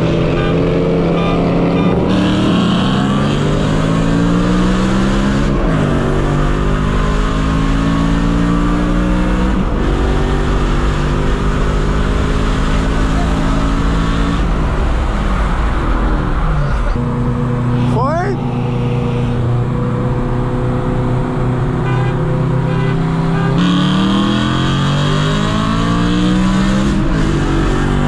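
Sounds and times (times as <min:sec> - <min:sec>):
car engine accelerating through gears: 0:00.0 - 0:28.0.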